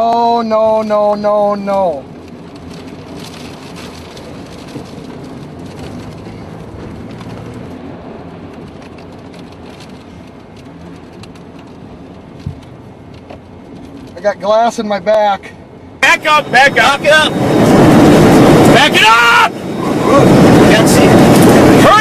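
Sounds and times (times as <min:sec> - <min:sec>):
wind-driven rain on a vehicle: 0:00.0 - 0:15.3, 0:16.0 - 0:22.0.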